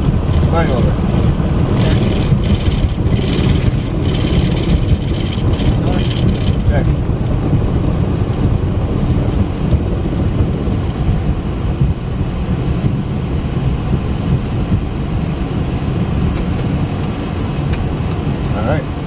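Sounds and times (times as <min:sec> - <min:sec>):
airliner low rumble on runway: 0:00.0 - 0:19.0.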